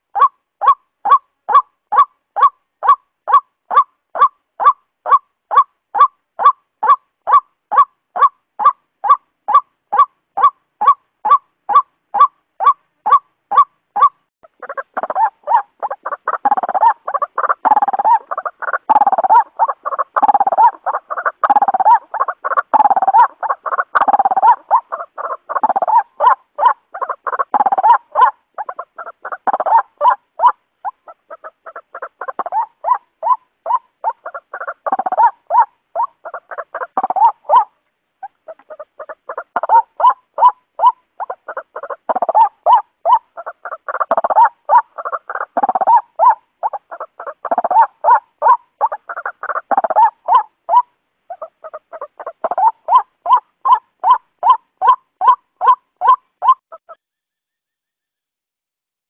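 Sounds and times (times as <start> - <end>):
waterhen calling: 0.0 - 57.0.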